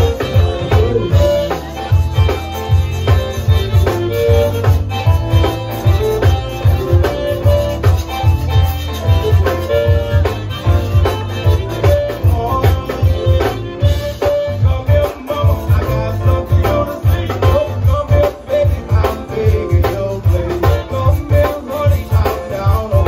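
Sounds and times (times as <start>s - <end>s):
accordion: 0.0s - 23.0s
drum kit dance beat: 0.0s - 23.0s
electric bass: 0.0s - 23.0s
electric guitar: 0.0s - 23.0s.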